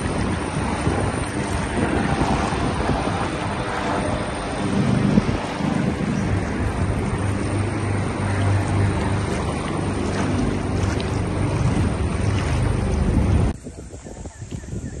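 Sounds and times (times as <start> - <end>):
floodwater rushing: 0.0 - 13.6.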